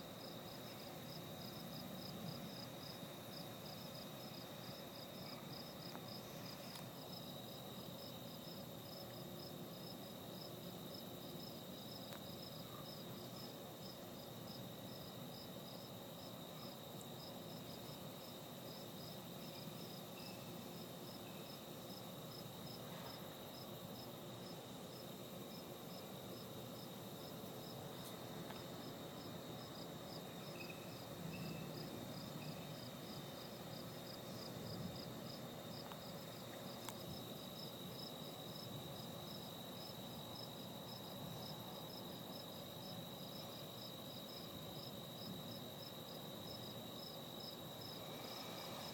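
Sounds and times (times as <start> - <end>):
crickets chirping: 0.0 - 48.9
high insect trill: 0.0 - 48.9.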